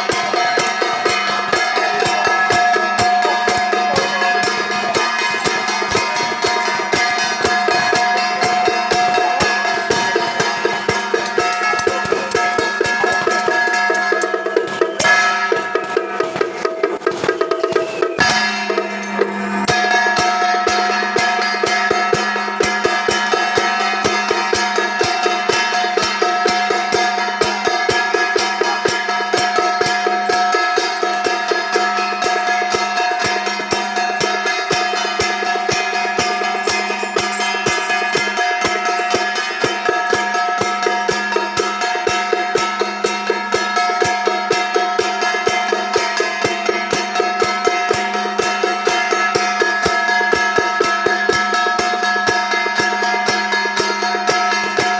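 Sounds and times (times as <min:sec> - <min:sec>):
procession music with fast percussion: 0:00.0 - 0:54.9.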